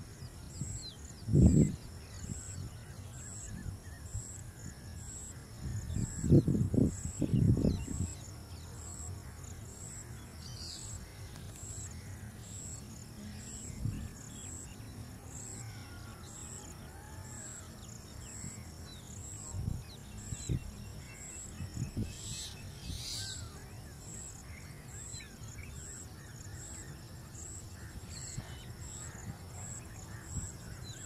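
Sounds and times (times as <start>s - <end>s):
faint bird calls: 0.6s - 31.0s.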